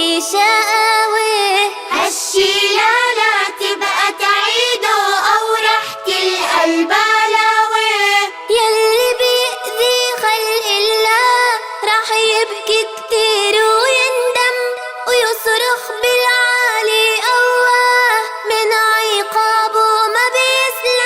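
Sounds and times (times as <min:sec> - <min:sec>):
child singing children's song: 0:00.0 - 0:21.0.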